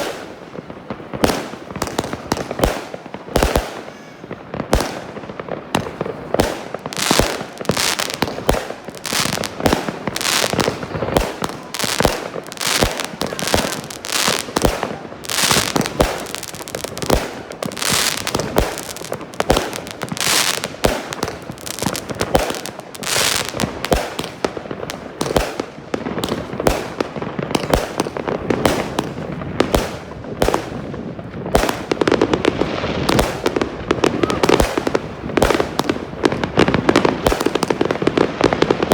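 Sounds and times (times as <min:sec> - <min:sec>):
fireworks launching and bursting: 0:00.0 - 0:38.9.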